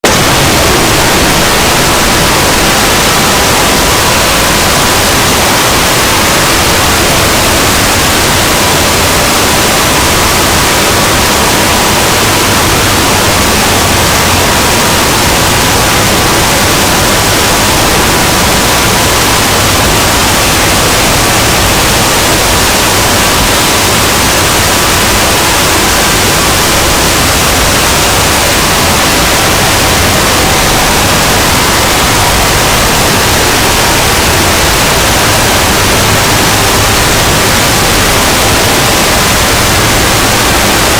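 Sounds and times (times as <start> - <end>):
harsh distorted static noise: 0.0 - 40.9.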